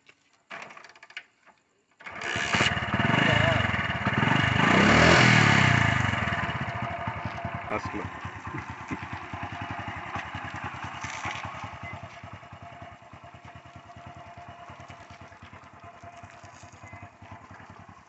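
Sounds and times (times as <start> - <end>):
motorcycle engine idling: 2.1 - 18.0.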